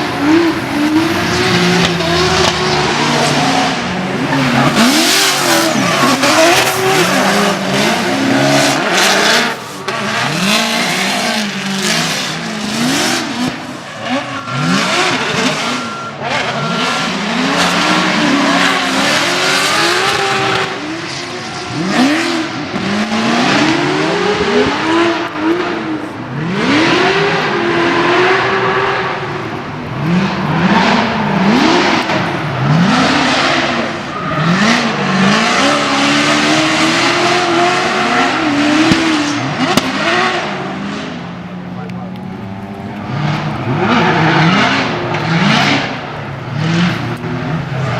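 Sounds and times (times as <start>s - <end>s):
car engines revving: 0.0s - 47.9s
tire noise rushing: 0.0s - 47.9s.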